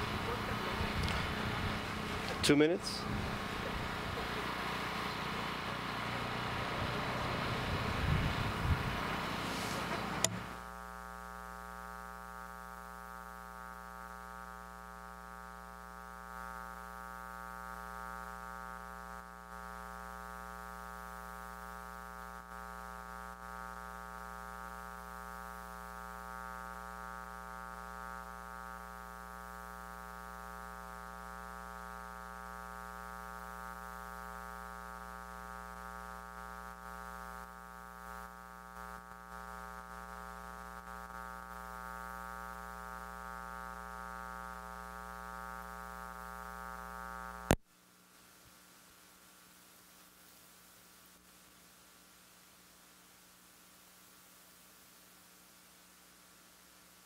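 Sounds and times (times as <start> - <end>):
electrical buzz: 0.0 - 47.6
faint hiss: 0.0 - 57.0.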